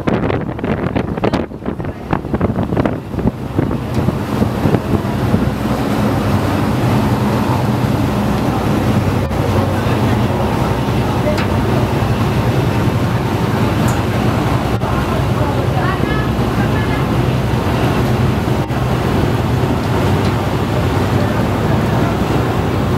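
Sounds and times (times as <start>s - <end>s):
boat engine humming: 0.0s - 22.9s
water rushing past hull: 0.0s - 22.9s
wind buffeting microphone: 0.0s - 22.9s.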